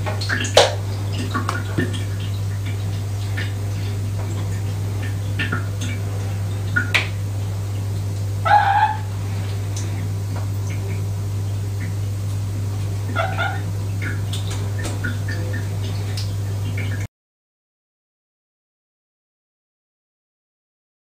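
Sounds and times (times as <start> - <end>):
steady low hum: 0.0 - 17.1.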